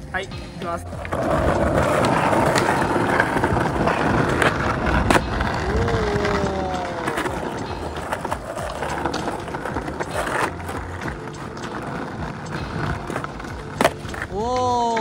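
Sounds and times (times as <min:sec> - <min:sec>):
skateboard clacking on ground: 0:00.6 - 0:15.0
skateboard wheels rolling on paving: 0:00.8 - 0:15.0.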